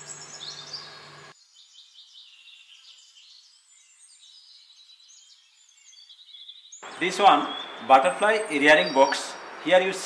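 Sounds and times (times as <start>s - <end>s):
faint bird chirping: 0.0s - 9.7s.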